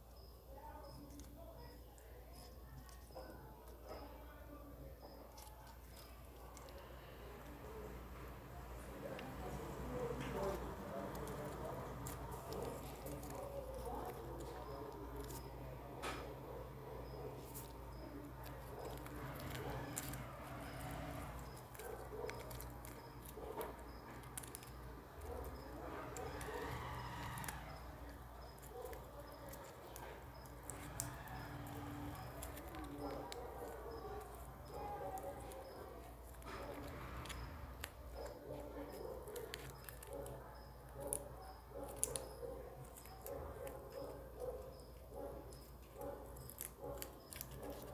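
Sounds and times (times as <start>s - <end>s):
cardboard rustling and creaking: 5.0s - 44.8s.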